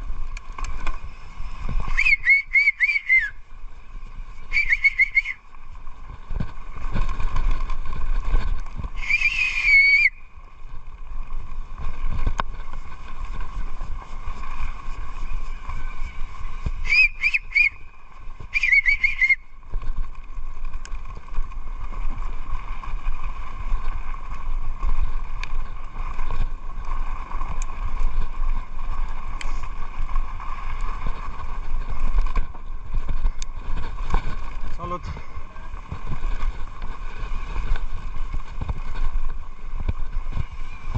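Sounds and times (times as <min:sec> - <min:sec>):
bike tyres rumbling on dirt trail: 0:00.0 - 0:40.9
wind on microphone: 0:00.0 - 0:40.9.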